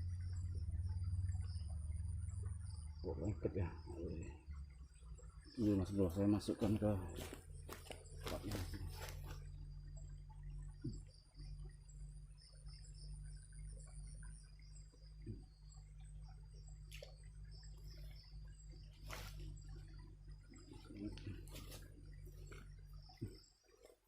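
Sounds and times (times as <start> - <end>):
insects trilling and chirping: 0.0 - 24.0
low hum: 0.0 - 24.0.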